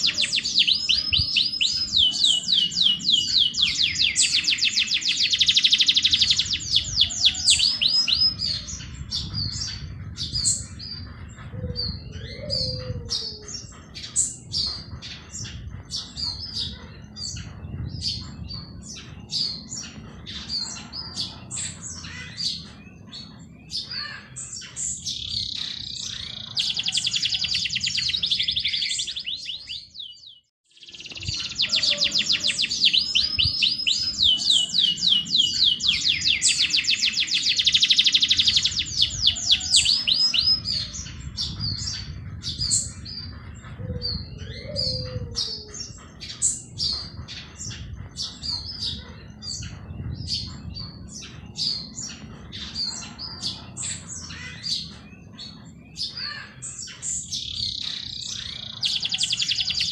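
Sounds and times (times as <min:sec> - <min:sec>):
birds chirping: 0:00.0 - 0:59.9
songbirds trilling: 0:00.0 - 0:59.9.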